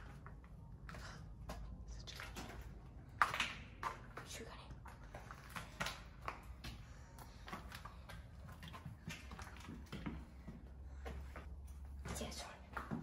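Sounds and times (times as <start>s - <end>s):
footsteps on debris-strewn floor: 0.0s - 13.0s.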